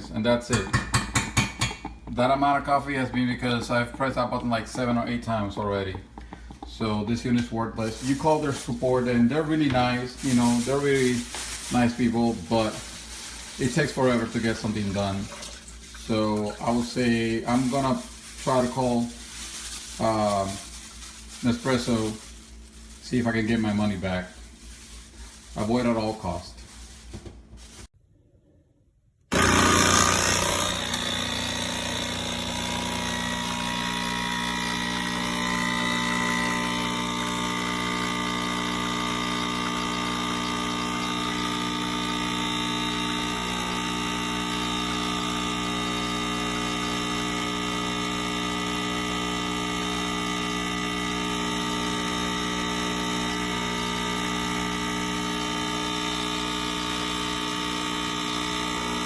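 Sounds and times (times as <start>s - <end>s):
espresso machine pump buzzing: 0.9s - 19.4s, 20.0s - 24.5s, 29.3s - 59.0s.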